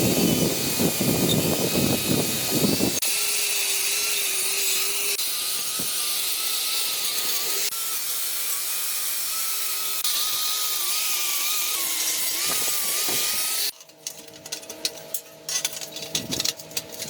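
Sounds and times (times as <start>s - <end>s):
power tool whining: 0.0s - 13.8s.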